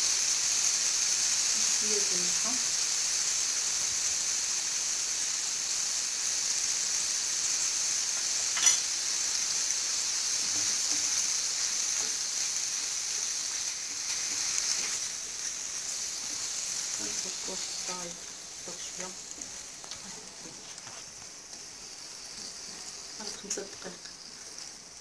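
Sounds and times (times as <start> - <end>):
squid sizzling in a frying pan: 0.0 - 25.0.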